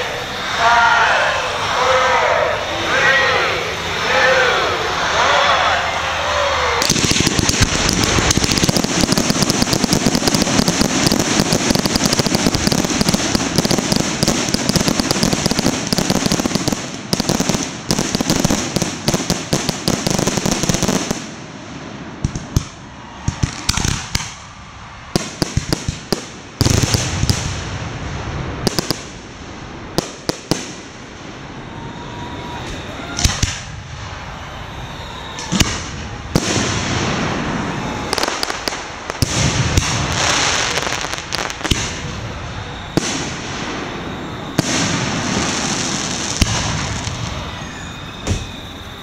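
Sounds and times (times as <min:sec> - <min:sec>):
fireworks bangs and crackling: 0:00.0 - 0:49.0
steady hiss: 0:00.0 - 0:49.0.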